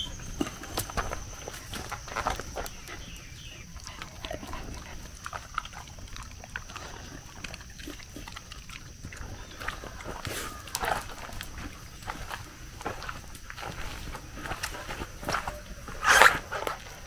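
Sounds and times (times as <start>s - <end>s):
dogs chewing treats: 0.0s - 17.0s
dogs snuffling: 0.0s - 17.0s.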